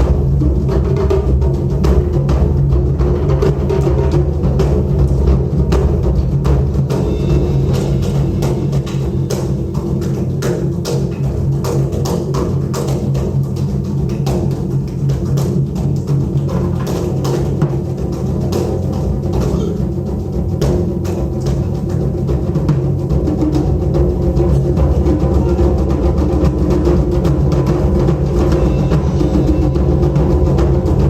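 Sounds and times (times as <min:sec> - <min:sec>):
taiko drums ensemble: 0:00.0 - 0:31.0.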